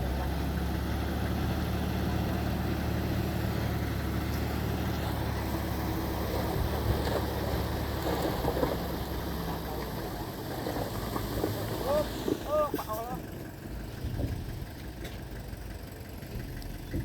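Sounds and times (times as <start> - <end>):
diesel machinery engine running: 0.0 - 17.0.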